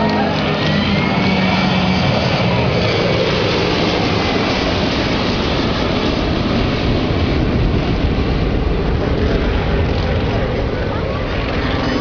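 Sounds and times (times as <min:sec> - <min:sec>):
jet airliner passing overhead: 0:00.0 - 0:12.0.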